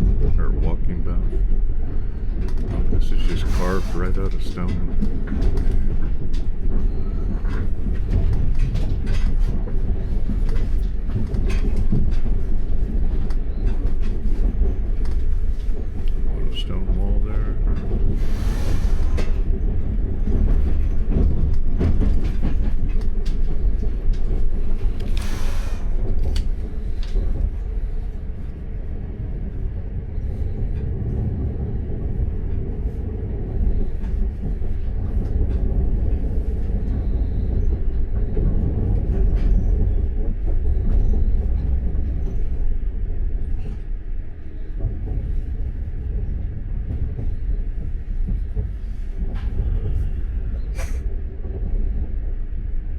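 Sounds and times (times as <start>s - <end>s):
train rumbling on rails: 0.0s - 52.9s
train wheel clicks: 0.8s - 52.2s.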